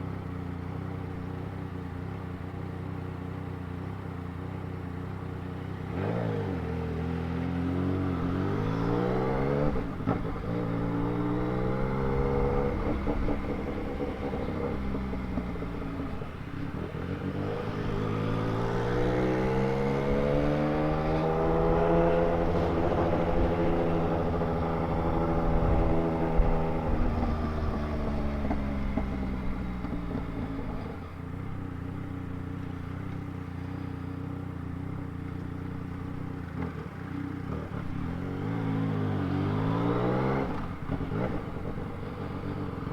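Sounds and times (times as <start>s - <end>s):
motorcycle engine riding along: 0.0s - 42.9s.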